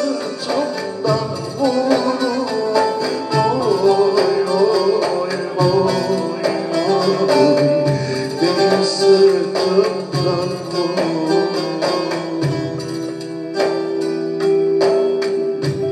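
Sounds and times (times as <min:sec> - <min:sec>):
electronic keyboard melody: 0:00.0 - 0:15.9
percussion beat: 0:00.0 - 0:15.9
plucked strings: 0:00.0 - 0:15.9.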